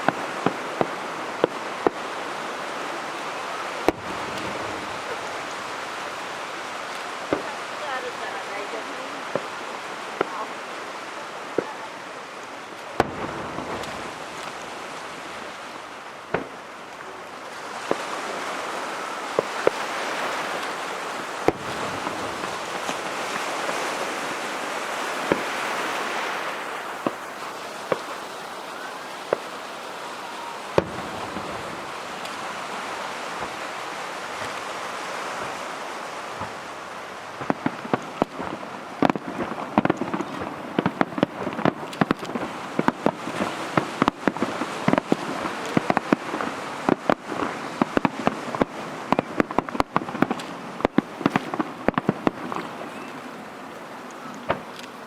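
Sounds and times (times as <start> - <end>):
rapid fireworks cracks and pops: 0.0 - 10.6, 11.4 - 55.0
fireworks bangs: 0.0 - 55.0
fireworks crackling: 0.0 - 55.0.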